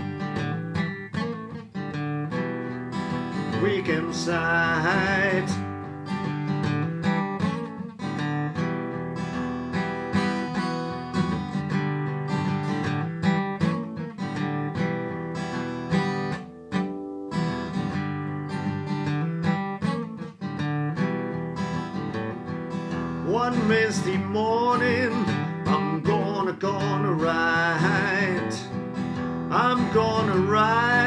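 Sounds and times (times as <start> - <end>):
acoustic guitar blues: 0.0 - 31.0.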